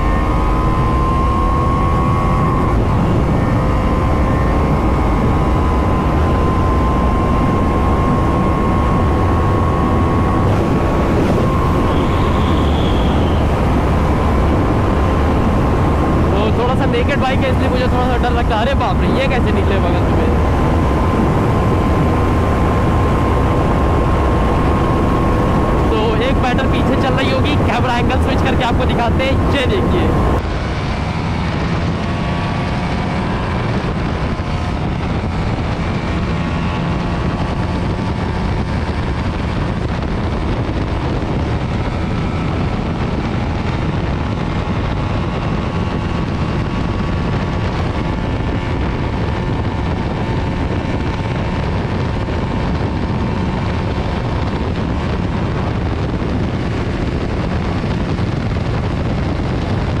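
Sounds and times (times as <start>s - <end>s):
motorcycle engine under throttle: 0.0s - 60.0s
wind rushing over microphone: 0.0s - 60.0s.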